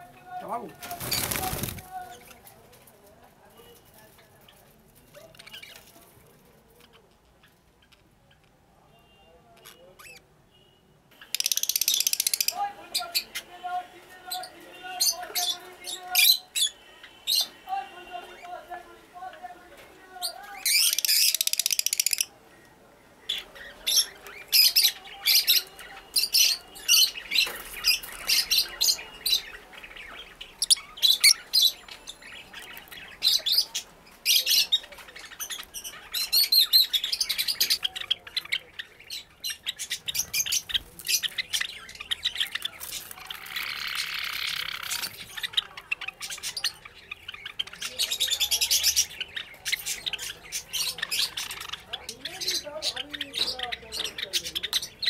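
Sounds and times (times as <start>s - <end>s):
lovebirds chirping and squawking: 0.0s - 2.8s, 3.7s - 55.0s.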